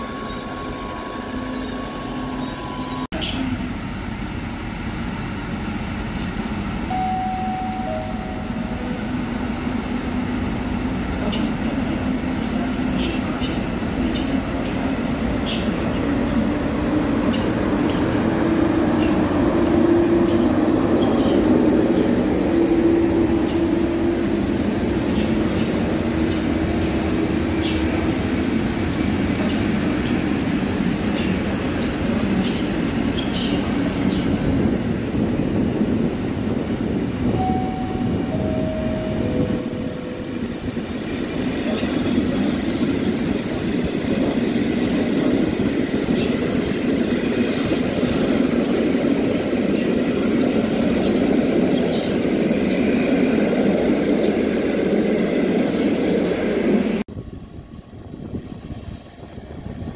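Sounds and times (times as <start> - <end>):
train wheels rumbling on rails: 3.1 - 59.9.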